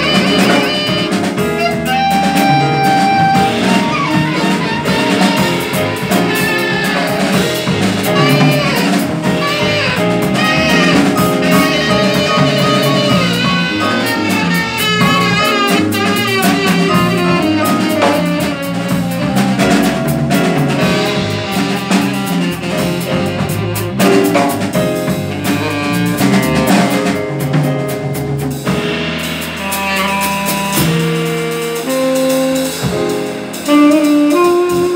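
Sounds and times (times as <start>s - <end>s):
jazz quartet playing: 0.0s - 34.9s.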